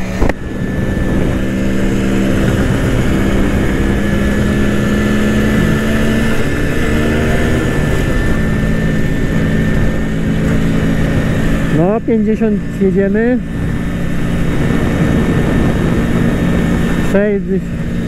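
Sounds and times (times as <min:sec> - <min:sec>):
two-stroke motorcycle engine revving: 0:00.0 - 0:18.0
wind rushing over microphone: 0:00.0 - 0:18.0.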